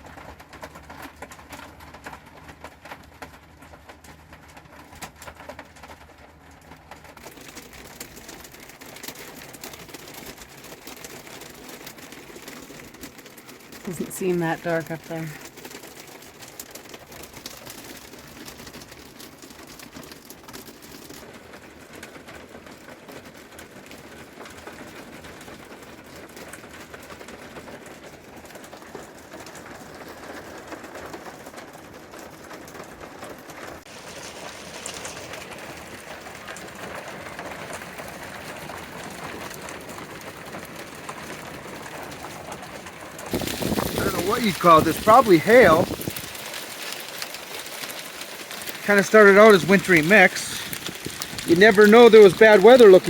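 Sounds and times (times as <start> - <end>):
hail and sleet falling: 0.0 - 53.0.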